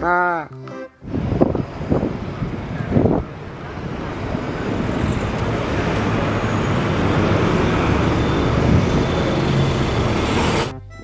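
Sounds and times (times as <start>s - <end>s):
street traffic: 0.6s - 10.7s
bus engine running: 1.0s - 11.0s.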